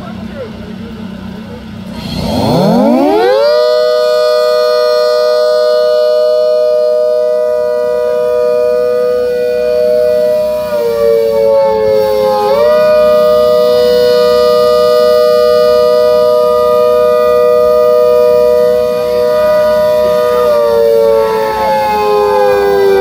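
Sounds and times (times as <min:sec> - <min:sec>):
siren wailing: 0:02.1 - 0:23.0.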